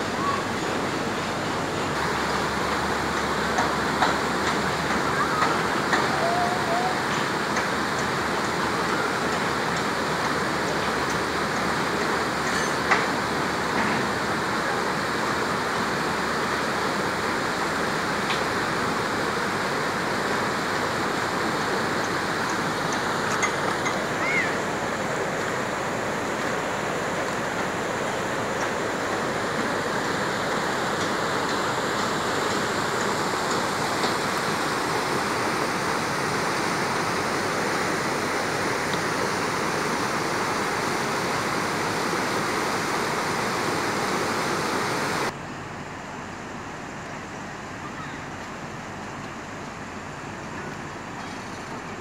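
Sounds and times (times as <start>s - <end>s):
shallow river rushing over rocks: 0.0s - 45.4s.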